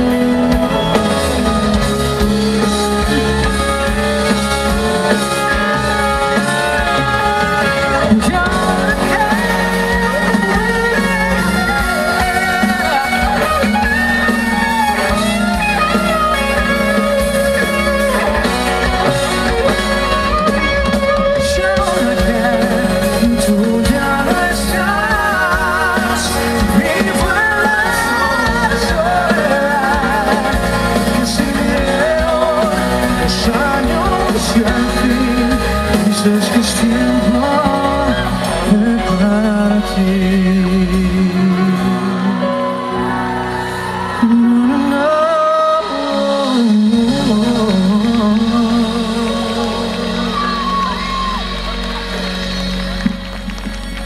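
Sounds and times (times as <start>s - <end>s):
person singing: 0.0s - 53.5s
electric guitar: 0.0s - 54.0s
live rock band playing: 0.0s - 54.0s
sustained lead melody: 0.0s - 54.0s.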